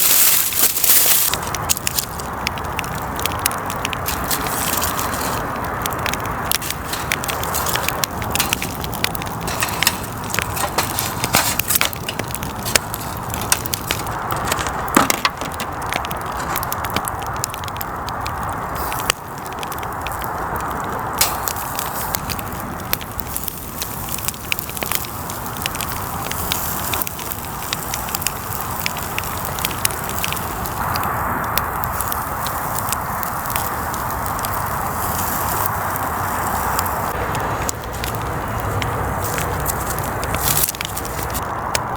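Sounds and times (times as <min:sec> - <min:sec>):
campfire crackling and popping: 0:00.0 - 0:41.9
steady fire hiss: 0:00.0 - 0:41.9.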